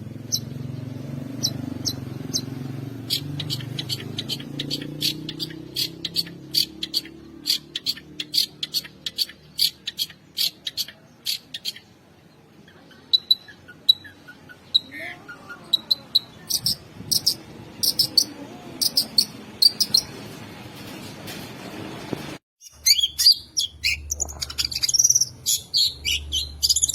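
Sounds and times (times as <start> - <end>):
bird singing sharp harsh notes: 0.1 - 20.1, 22.6 - 26.9.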